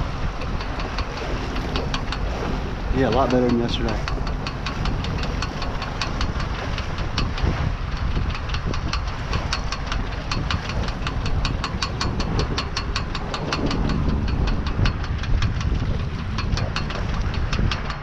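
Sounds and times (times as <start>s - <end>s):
low rumble of wind and water: 0.0s - 18.0s
rapid even ticking: 0.0s - 18.0s.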